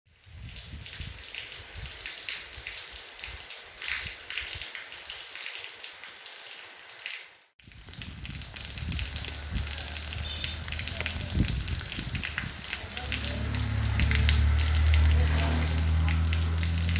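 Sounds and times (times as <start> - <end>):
rain falling: 0.1 - 16.9.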